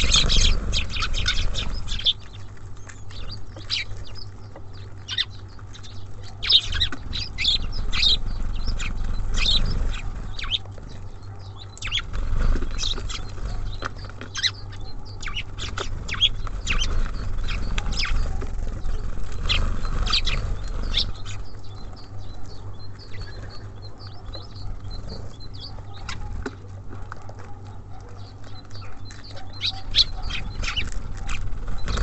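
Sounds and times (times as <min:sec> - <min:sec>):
steady low rumble: 0:00.0 - 0:27.0
small songbirds chirping: 0:00.0 - 0:32.0.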